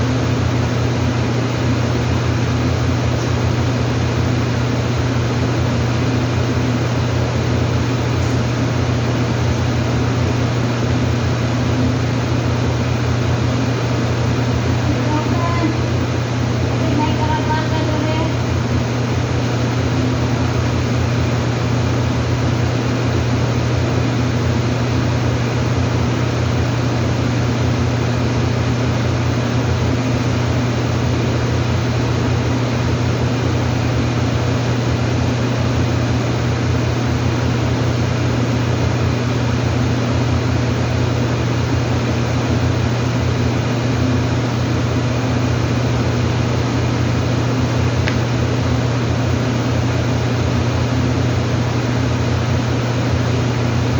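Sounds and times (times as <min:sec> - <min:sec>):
machine drone with low hum: 0:00.0 - 0:53.9.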